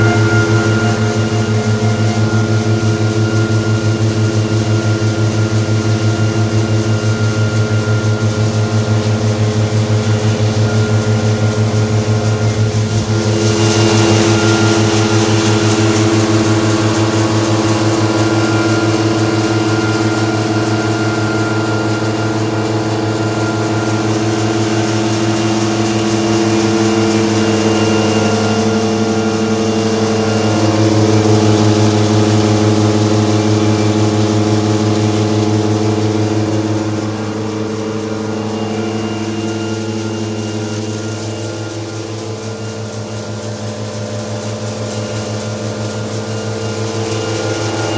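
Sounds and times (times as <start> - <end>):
thresher machine drone: 0.0 - 47.9.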